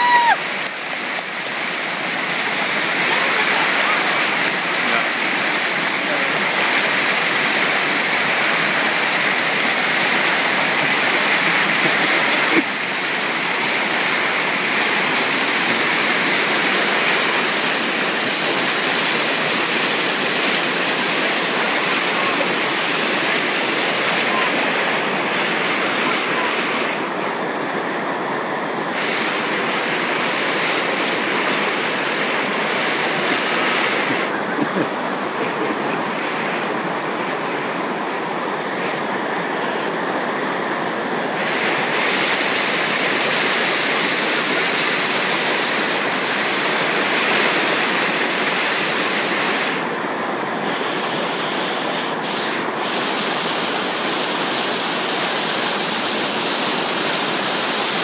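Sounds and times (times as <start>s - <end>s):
whitewater rushing: 0.0s - 58.0s.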